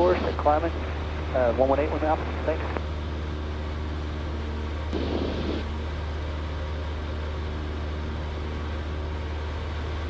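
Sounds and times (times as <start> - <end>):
airplane engine and propeller droning: 0.0 - 10.0.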